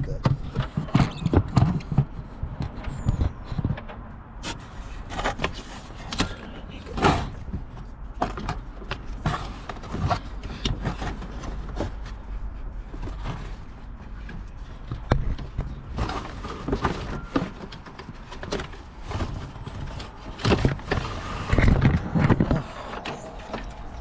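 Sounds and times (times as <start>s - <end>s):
parts knocking and scraping: 0.0s - 24.0s.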